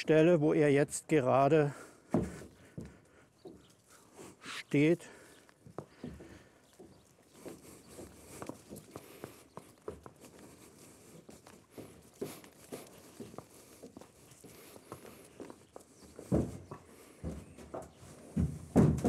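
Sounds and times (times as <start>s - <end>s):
hooves knocking on trailer ramp: 1.6s - 3.7s, 5.8s - 19.0s.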